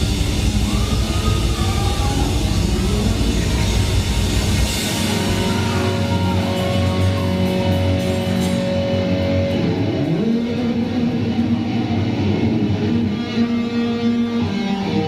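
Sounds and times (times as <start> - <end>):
electric guitar sustained notes: 0.0 - 15.0
rock band playing live: 0.0 - 15.0.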